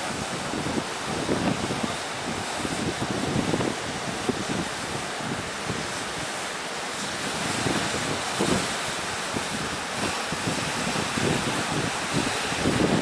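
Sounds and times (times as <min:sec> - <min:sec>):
ocean surf rushing: 0:00.0 - 0:13.0
wind buffeting microphone: 0:00.0 - 0:13.0.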